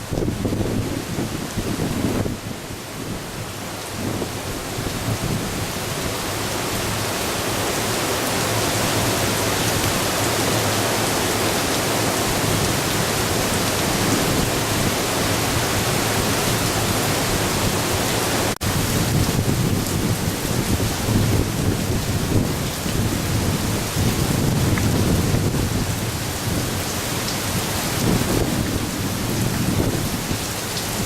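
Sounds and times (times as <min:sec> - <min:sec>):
heavy rain: 0:00.0 - 0:31.0
strong wind: 0:00.0 - 0:31.0.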